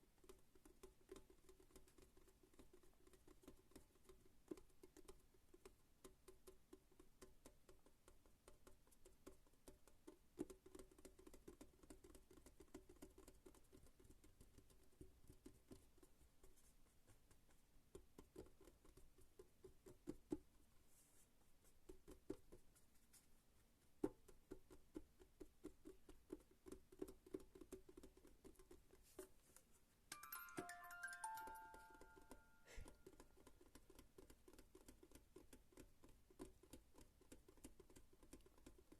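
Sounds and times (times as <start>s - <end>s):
fingernail tapping and scratching: 0.0s - 20.7s, 21.6s - 38.9s.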